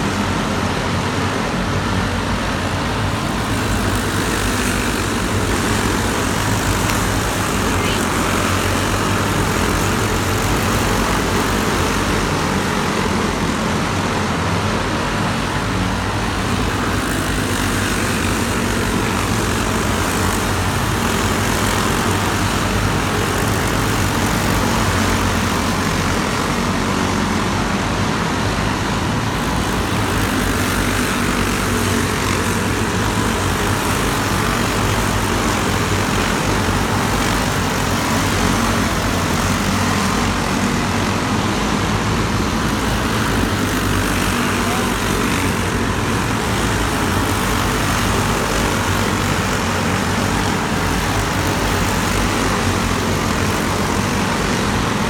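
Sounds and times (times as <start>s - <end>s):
kart engines running: 0.0s - 55.0s.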